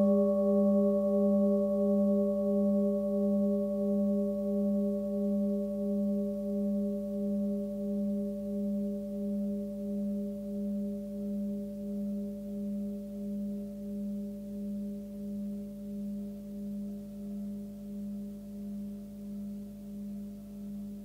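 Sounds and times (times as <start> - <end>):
singing bowl ringing: 0.0 - 21.0.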